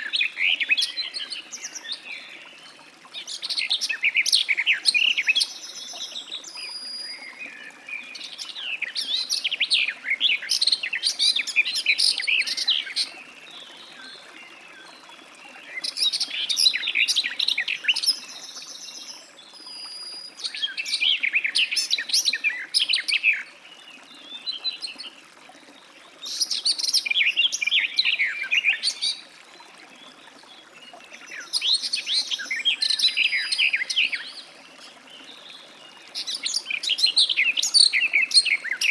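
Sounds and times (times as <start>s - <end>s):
bird warbling song: 0.0s - 25.2s, 26.2s - 29.3s, 29.9s - 38.9s.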